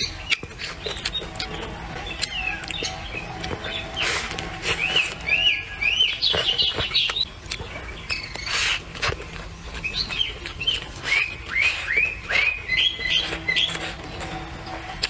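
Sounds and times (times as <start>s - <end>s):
person chewing and smacking: 0.0s - 15.0s
small birds chirping: 0.0s - 15.0s.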